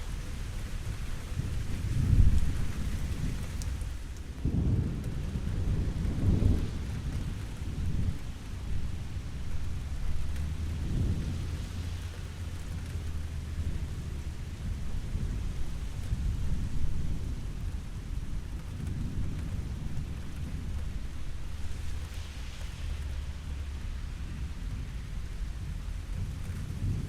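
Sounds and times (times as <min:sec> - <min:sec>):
steady rain falling: 0:00.0 - 0:27.0
low rolling thunder: 0:00.2 - 0:27.0.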